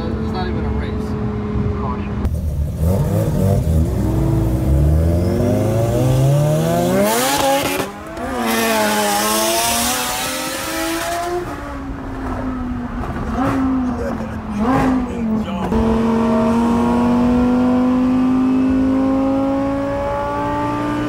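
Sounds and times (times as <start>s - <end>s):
car engine accelerating hard: 0.9s - 21.0s.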